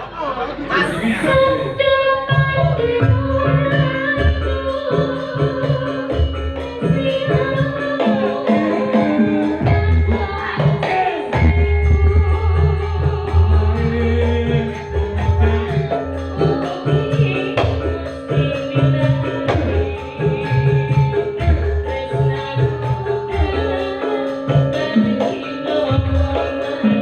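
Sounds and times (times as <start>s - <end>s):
rhythmic drum beat: 0.0s - 27.0s
jingling percussion: 0.8s - 27.0s.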